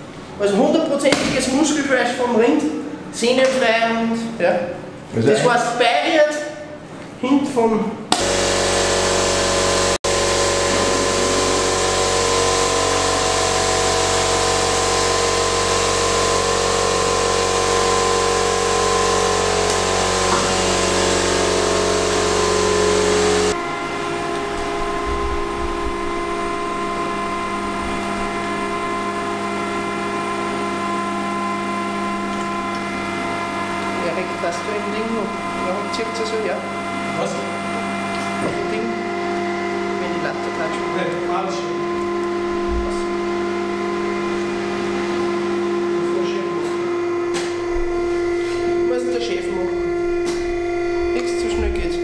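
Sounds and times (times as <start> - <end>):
bowl cutter machine running: 8.1 - 52.0
sausage filler machine hum: 8.1 - 52.0.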